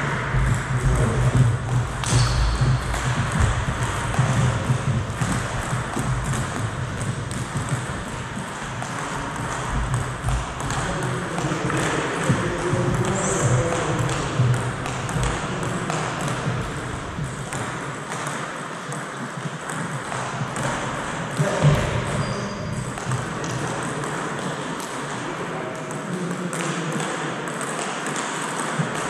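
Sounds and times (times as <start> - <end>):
table tennis balls clicking: 0.0 - 29.0.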